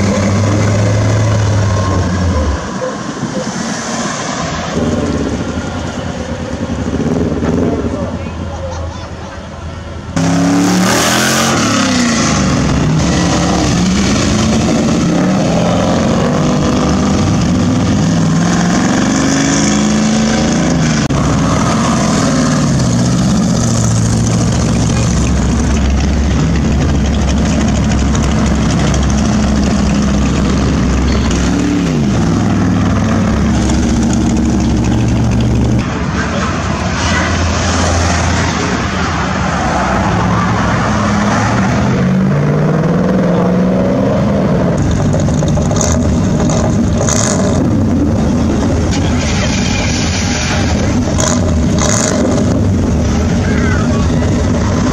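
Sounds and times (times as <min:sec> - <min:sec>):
car engines revving: 0:00.0 - 0:54.9.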